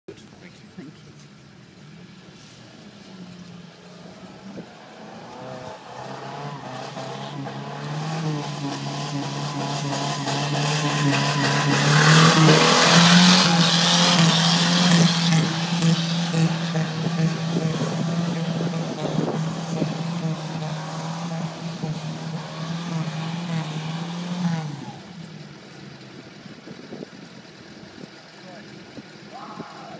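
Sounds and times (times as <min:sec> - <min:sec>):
car engine at high revs: 0:01.1 - 0:29.9.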